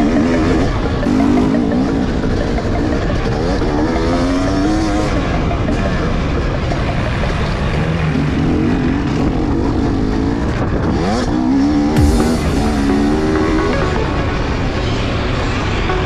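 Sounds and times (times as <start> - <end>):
motorbike engine revving: 0.0 - 16.0
music: 0.0 - 16.0.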